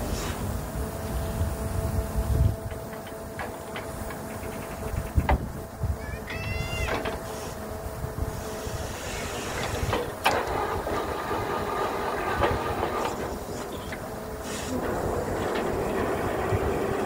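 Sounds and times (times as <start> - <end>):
drilling rig rumbling: 0.0 - 17.0.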